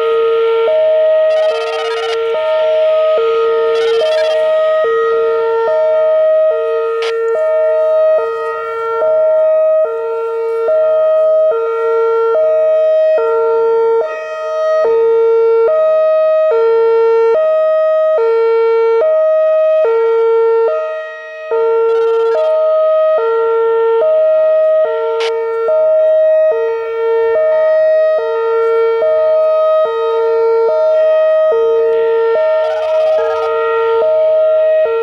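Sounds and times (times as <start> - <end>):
electronic siren hi-lo tone: 0.0 - 35.0.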